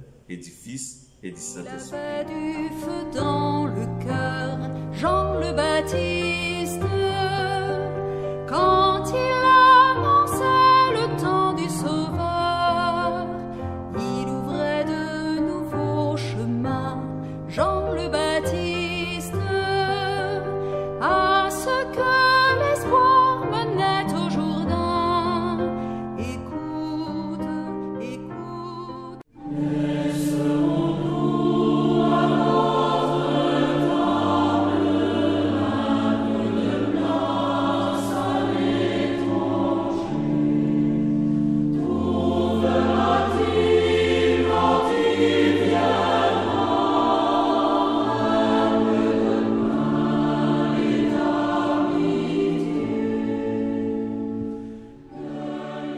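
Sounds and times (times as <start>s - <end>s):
choir singing a hymn: 1.3s - 28.2s, 29.4s - 55.9s.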